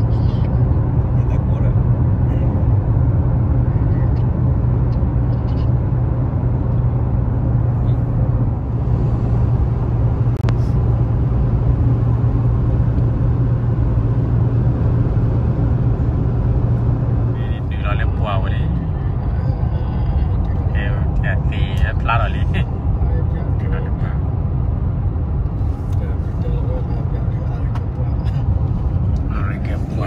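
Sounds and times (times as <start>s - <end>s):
road rumble: 0.0s - 30.0s
vehicle engine hum: 0.0s - 30.0s.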